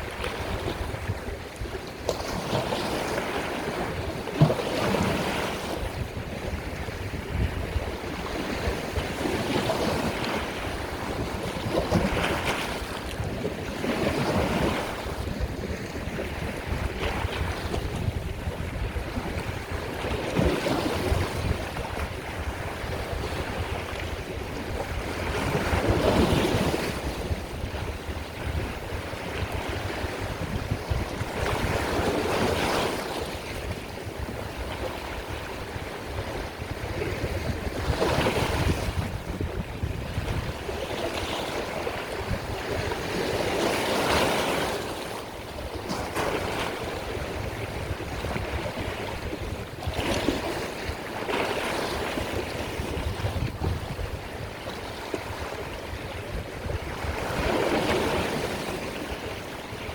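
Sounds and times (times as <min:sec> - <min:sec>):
sea waves surging: 0:00.0 - 0:59.9.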